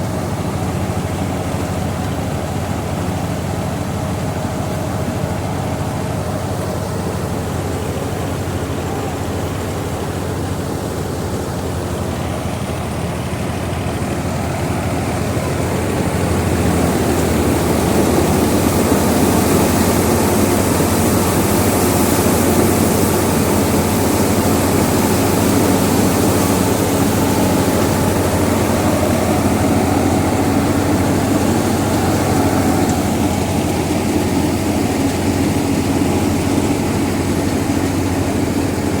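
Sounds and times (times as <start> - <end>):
tractor engine humming: 0.0 - 39.0
thresher machine rushing: 2.7 - 39.0.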